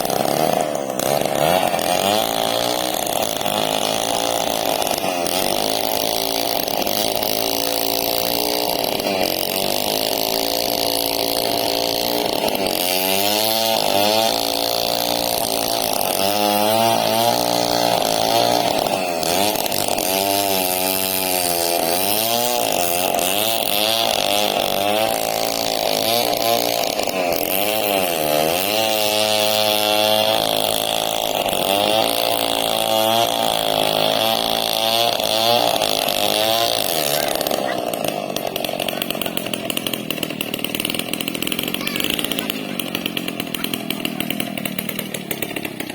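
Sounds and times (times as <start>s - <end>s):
chainsaw cutting a log: 0.0s - 45.9s.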